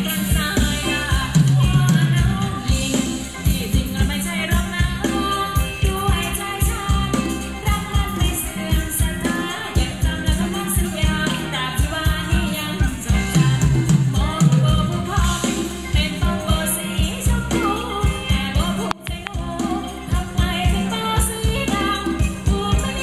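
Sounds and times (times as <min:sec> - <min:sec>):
person singing: 0:00.0 - 0:23.0
shaken percussion: 0:00.0 - 0:23.0
steady drum beat: 0:00.0 - 0:23.0.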